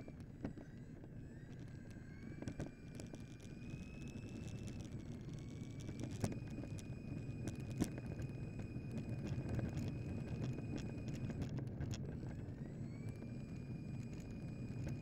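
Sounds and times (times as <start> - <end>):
high electric motor whine: 0.0 - 15.0
wheels rumbling on asphalt: 0.0 - 15.0.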